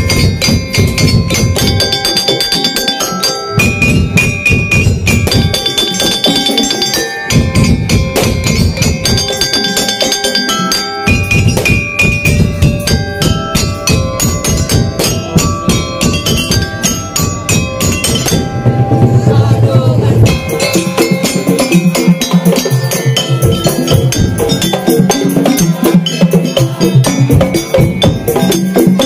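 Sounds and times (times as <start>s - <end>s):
fast dense drumming: 0.0s - 10.5s, 11.1s - 29.0s
melody of held high notes: 0.0s - 29.0s
struck wooden and metal percussion: 0.0s - 29.0s.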